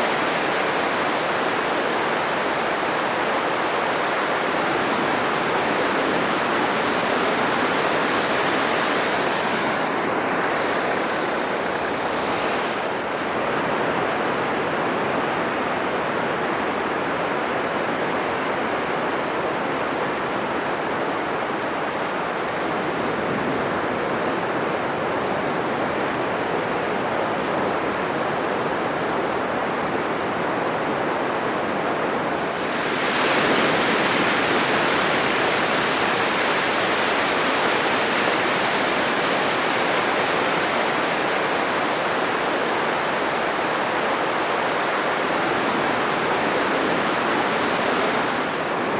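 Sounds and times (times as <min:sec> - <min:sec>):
surf breaking on a beach: 0:00.0 - 0:17.9, 0:18.8 - 0:48.9.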